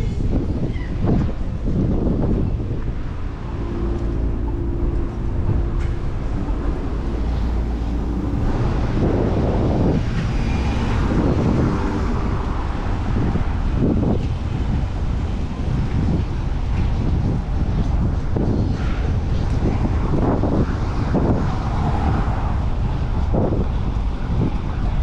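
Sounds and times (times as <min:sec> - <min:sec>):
passing vehicles: 0:00.0 - 0:25.0
street traffic: 0:00.0 - 0:25.0
wind rumbling on microphone: 0:00.0 - 0:25.0.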